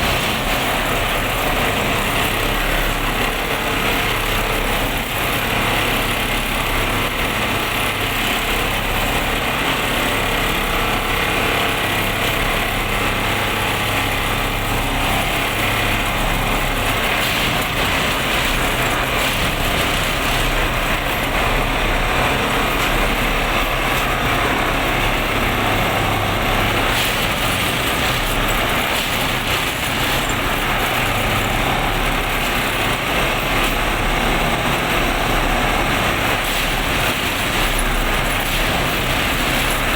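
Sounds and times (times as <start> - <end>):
machine clatter and hum: 0.0 - 39.9.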